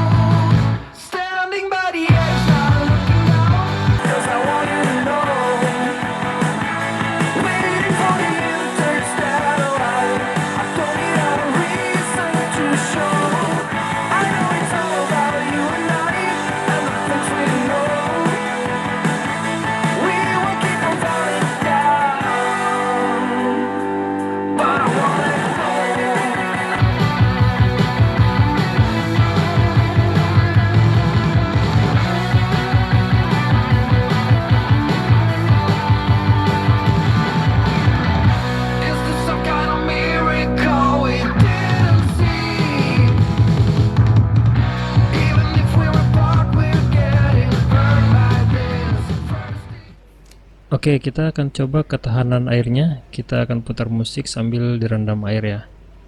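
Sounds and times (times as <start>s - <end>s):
song with singing and guitar: 0.0s - 50.5s.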